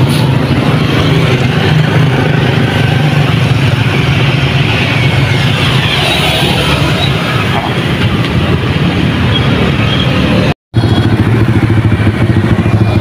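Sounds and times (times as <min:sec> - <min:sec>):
motorbike engines rumbling: 0:00.0 - 0:13.0.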